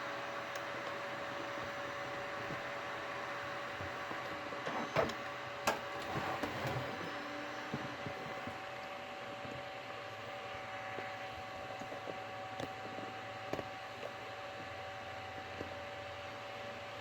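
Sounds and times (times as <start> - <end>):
computer fan hiss: 0.0 - 17.0.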